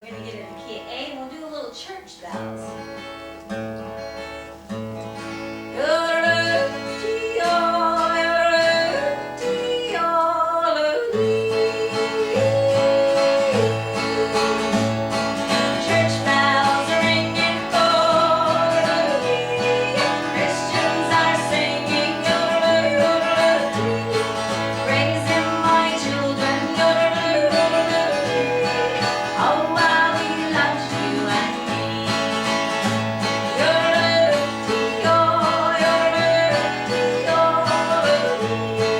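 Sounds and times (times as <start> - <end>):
strummed acoustic guitar: 0.0 - 38.9.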